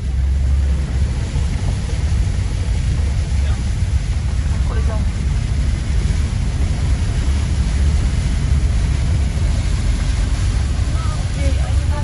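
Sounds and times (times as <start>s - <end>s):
car driving through floodwater: 0.0s - 12.0s
heavy rain: 0.0s - 12.0s.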